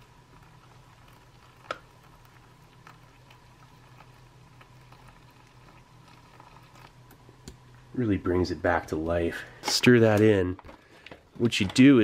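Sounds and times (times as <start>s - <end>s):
dry food crackling: 0.0s - 7.2s, 8.7s - 12.0s.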